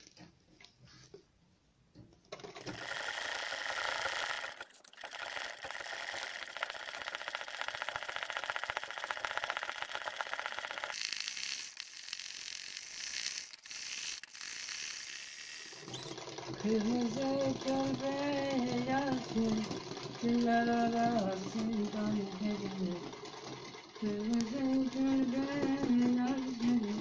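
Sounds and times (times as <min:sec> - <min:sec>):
sewing machine stitching: 0:02.2 - 0:27.0.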